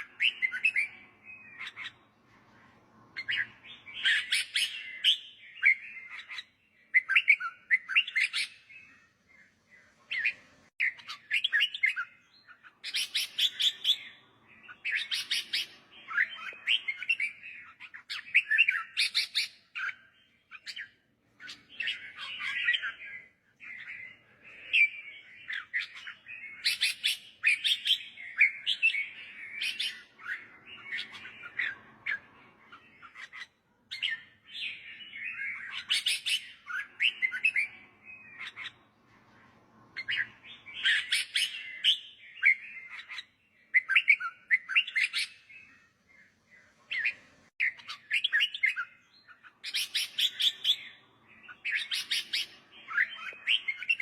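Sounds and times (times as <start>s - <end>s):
bulbul singing chirps: 0.0s - 2.2s, 3.1s - 38.9s, 39.9s - 54.0s.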